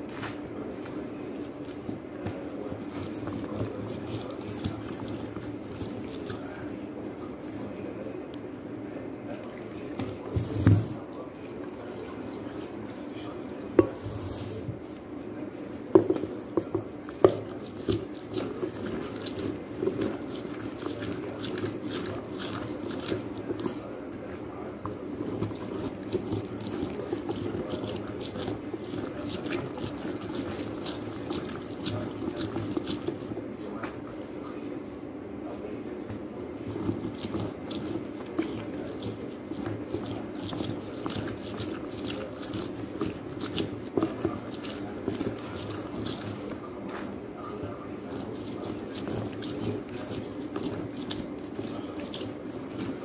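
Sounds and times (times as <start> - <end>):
wet squishing of oranges: 0.0 - 7.8, 9.2 - 15.2, 15.8 - 35.1, 36.0 - 53.0
juice dripping: 0.8 - 6.9, 10.9 - 14.0, 16.1 - 33.6, 36.3 - 53.0.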